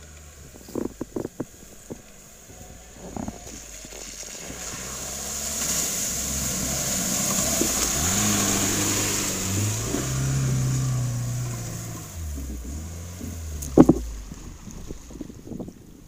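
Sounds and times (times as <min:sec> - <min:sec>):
car engine revving under load: 0:00.0 - 0:16.0
water splashing: 0:00.0 - 0:16.0.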